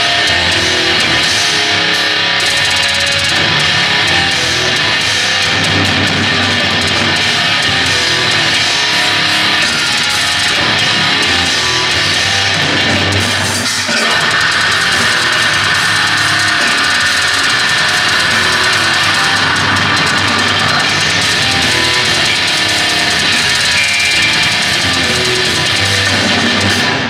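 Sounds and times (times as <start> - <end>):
bass guitar: 0.0 - 27.0
distorted electric guitars: 0.0 - 27.0
drum kit: 0.0 - 27.0.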